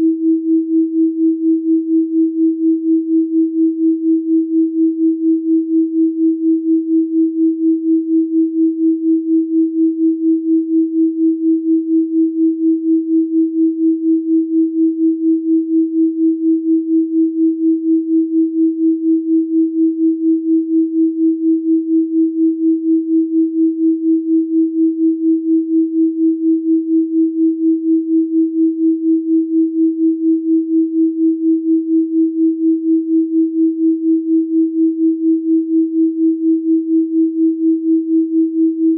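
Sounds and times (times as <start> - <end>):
pulsing electronic sine tone: 0.0 - 38.9.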